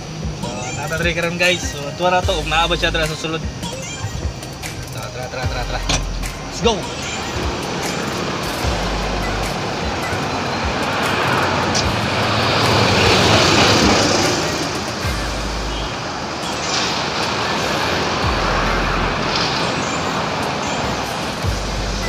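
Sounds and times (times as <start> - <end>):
cars and trucks passing: 0.0 - 22.0.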